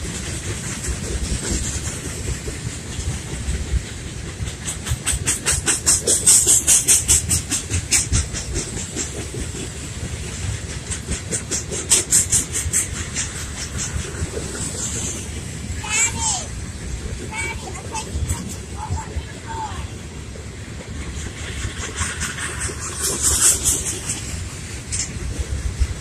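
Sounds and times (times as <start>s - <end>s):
freight train rumbling past: 0.0s - 26.0s
wheels clicking over track: 0.0s - 26.0s.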